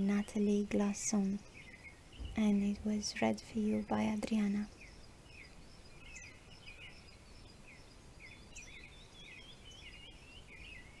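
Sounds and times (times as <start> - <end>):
birds chirping: 0.0 - 11.0
soft steady hiss: 0.0 - 11.0.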